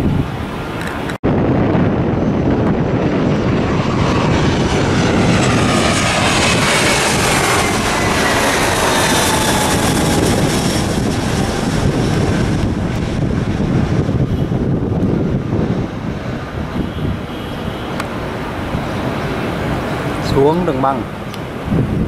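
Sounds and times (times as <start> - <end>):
jet engine whine falling in pitch: 0.0 - 22.0
jet engines roaring: 0.0 - 22.0.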